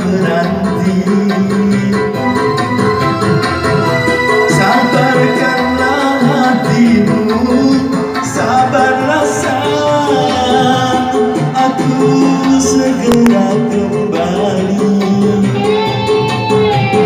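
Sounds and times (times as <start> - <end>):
song with instrumental accompaniment: 0.0 - 17.0.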